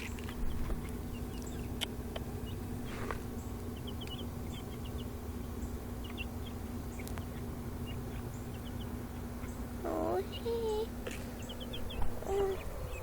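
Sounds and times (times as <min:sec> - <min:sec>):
baby chicks peeping: 0:00.0 - 0:13.0
steady low hum: 0:00.0 - 0:13.0.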